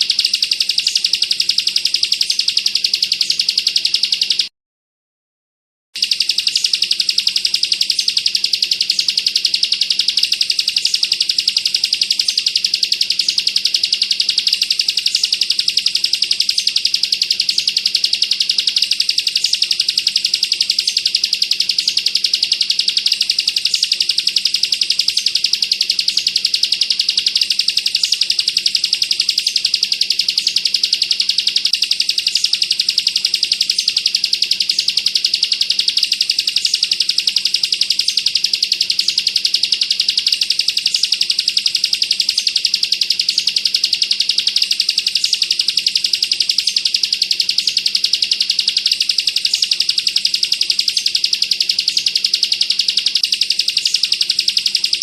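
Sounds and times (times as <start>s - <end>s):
bird singing fast trill: 0.0s - 4.5s, 6.0s - 55.0s.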